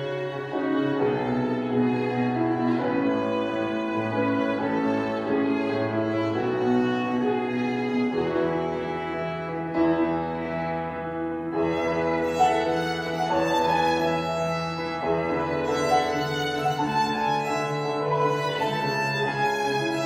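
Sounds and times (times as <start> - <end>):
piano accompaniment: 0.0 - 20.0
violin melody: 0.0 - 20.0.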